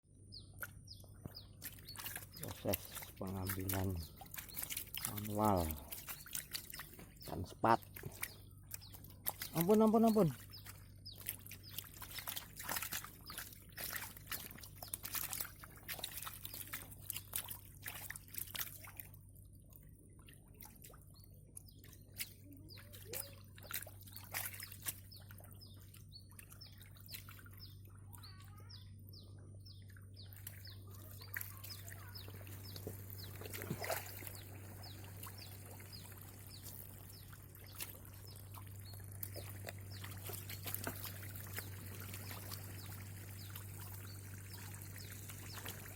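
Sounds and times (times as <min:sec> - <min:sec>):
constant low hum: 0:00.1 - 0:45.9
water trickling: 0:00.4 - 0:45.9
water splashing: 0:00.6 - 0:21.1, 0:21.7 - 0:27.7, 0:29.9 - 0:45.9.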